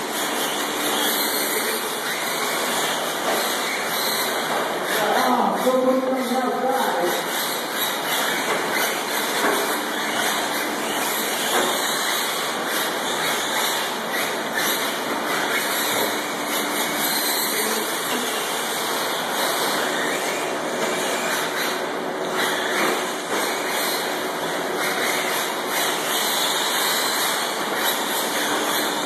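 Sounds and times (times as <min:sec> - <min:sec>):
toy truck motors whirring: 0:00.0 - 0:29.0.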